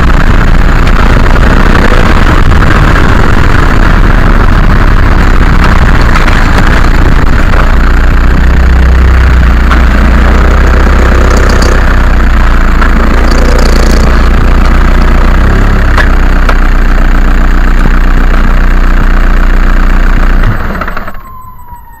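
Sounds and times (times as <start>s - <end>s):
low car rumble: 0.0s - 22.0s.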